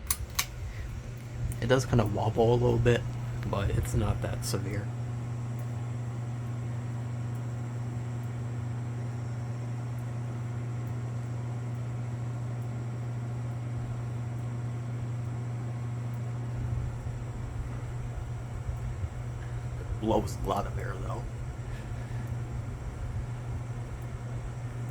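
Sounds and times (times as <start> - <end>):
ceiling fan buzzing hum: 0.0 - 24.9.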